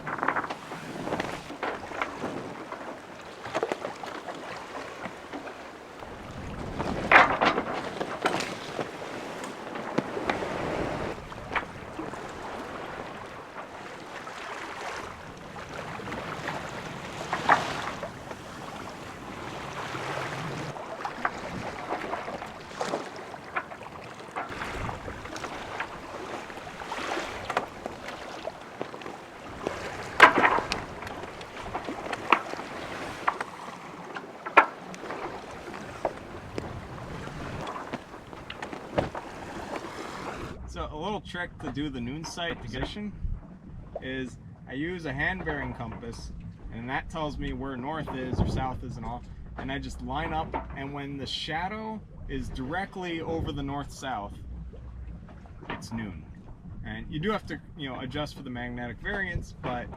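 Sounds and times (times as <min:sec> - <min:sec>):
boat knocking: 0:00.0 - 0:43.1, 0:45.1 - 0:51.6, 0:52.6 - 0:59.9
light wind: 0:00.0 - 0:59.9
water sloshing against hull: 0:00.0 - 0:59.9.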